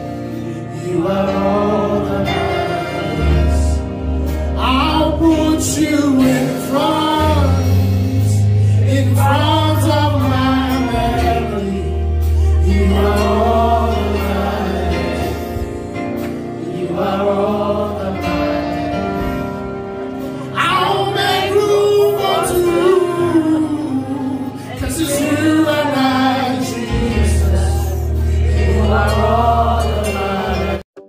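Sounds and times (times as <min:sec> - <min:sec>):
voices singing: 0:00.0 - 0:04.0, 0:04.6 - 0:19.6, 0:20.2 - 0:30.9
held bass notes: 0:00.0 - 0:31.0
keyboard: 0:00.0 - 0:31.0.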